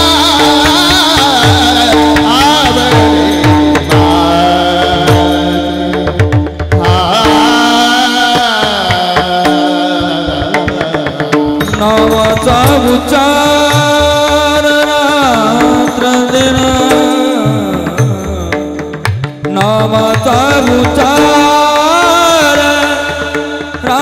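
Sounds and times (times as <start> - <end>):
drum strokes: 0.0 - 24.0
person singing melodic line: 0.0 - 24.0.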